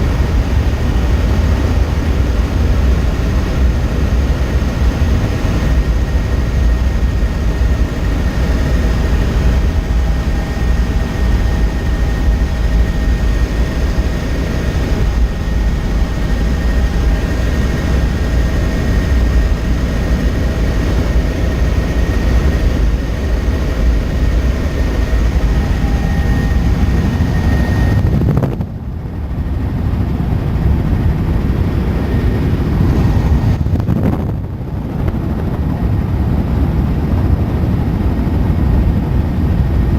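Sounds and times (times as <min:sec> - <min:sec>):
high whine: 0:00.0 - 0:36.1
helicopter engine and rotor noise: 0:00.0 - 0:39.9.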